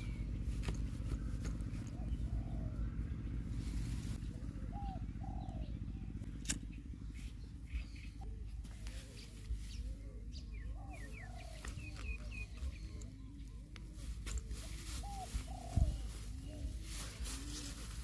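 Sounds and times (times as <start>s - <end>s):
doves cooing: 0.0s - 18.0s
small bird chirping: 0.0s - 18.0s.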